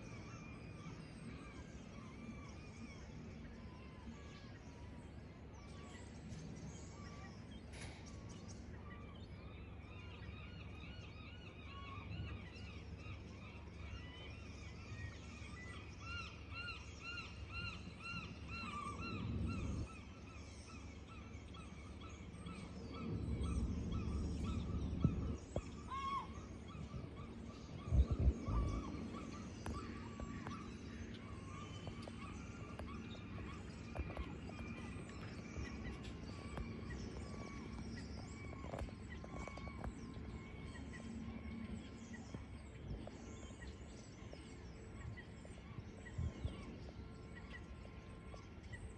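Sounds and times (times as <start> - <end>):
birds calling: 0.0 - 48.9
low background hum: 0.0 - 48.9.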